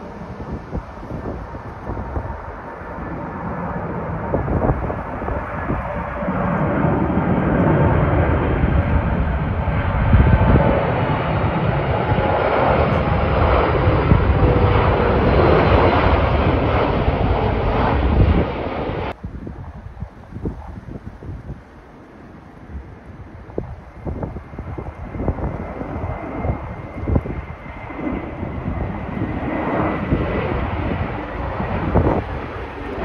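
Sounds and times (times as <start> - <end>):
jet airliner passing overhead: 0.0 - 33.0.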